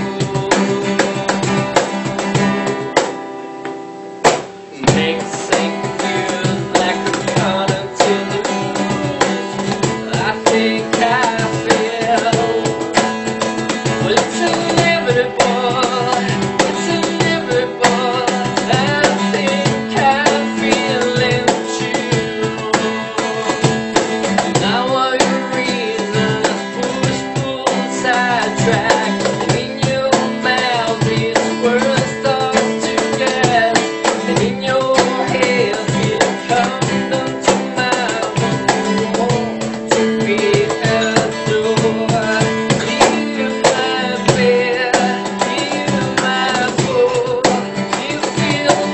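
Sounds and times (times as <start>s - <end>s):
man singing: 0.0s - 3.1s, 4.6s - 48.9s
acoustic guitar strumming: 0.0s - 48.9s
cajon slapped by hand: 0.2s - 48.9s.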